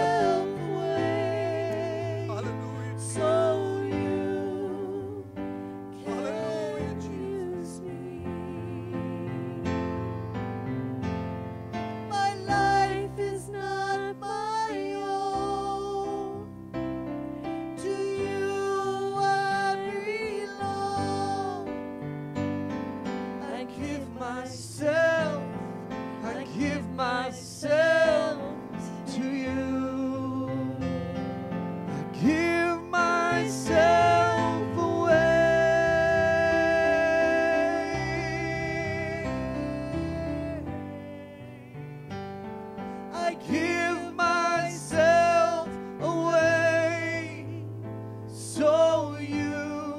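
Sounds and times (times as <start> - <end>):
person singing: 0.0 - 5.4, 6.0 - 10.0, 12.1 - 16.6, 17.8 - 21.8, 23.4 - 25.6, 26.2 - 31.1, 31.9 - 41.8, 43.1 - 47.6, 48.4 - 49.9
electric piano chords: 0.0 - 49.9.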